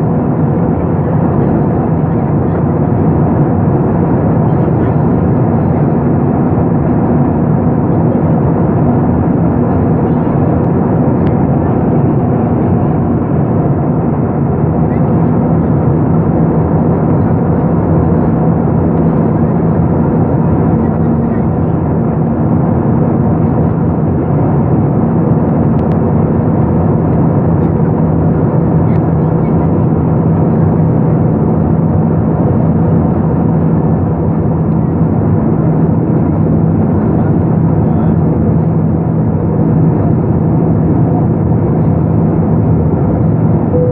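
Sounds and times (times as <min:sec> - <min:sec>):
airplane engine and airflow: 0:00.0 - 0:43.9.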